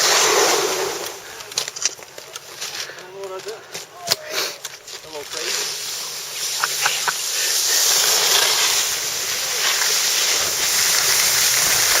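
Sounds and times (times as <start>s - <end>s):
skis sliding over packed snow: 0.0s - 12.0s.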